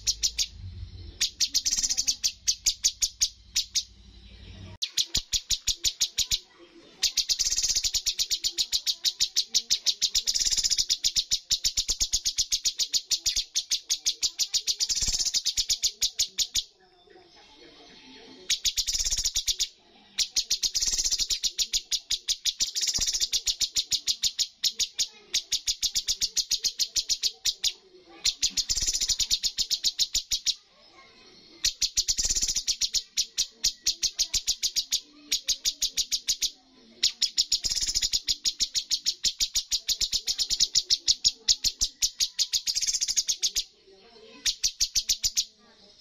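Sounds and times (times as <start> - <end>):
bird singing rapid sharp notes: 0.0 - 17.0, 18.2 - 46.0.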